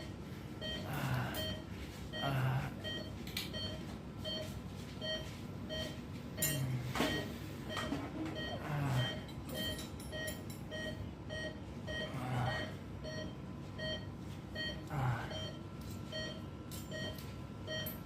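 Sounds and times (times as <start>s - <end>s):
patient monitor beeping: 0.0s - 18.0s.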